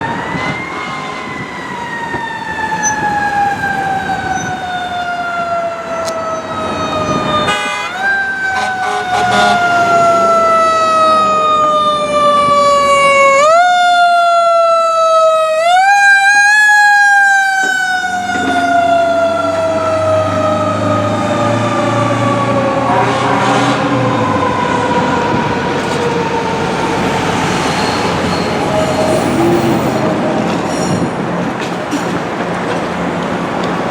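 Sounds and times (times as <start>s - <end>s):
truck engine rumble: 0.0s - 13.9s, 15.0s - 33.9s
fire truck siren: 0.0s - 33.9s.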